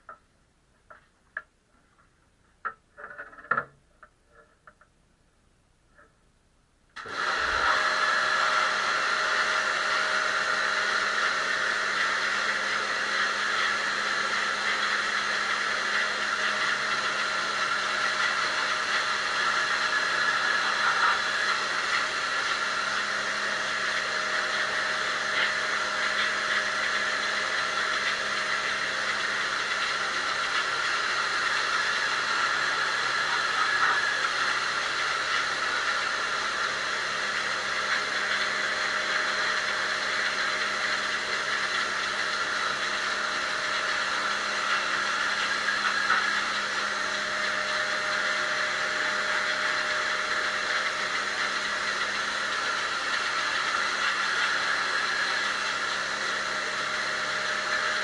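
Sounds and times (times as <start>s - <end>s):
pressure washer motor humming: 7.0s - 58.0s
water jet hissing: 7.0s - 58.0s.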